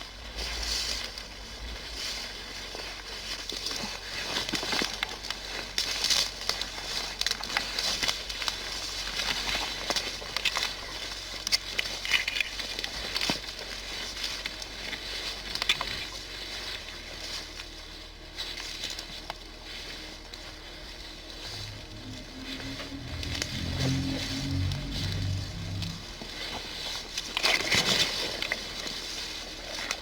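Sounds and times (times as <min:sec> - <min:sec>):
crackling and rustling: 0:00.0 - 0:30.0.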